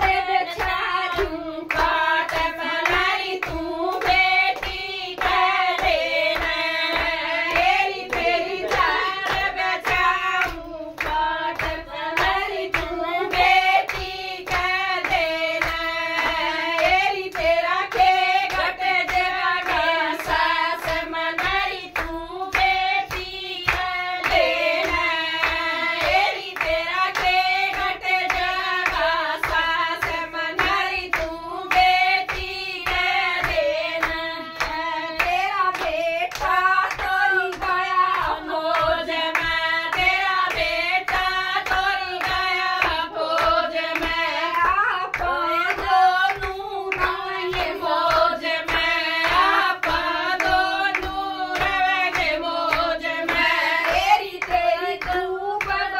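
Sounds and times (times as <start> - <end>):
hand-clapping: 0.0 - 55.9
women singing together: 0.0 - 55.9.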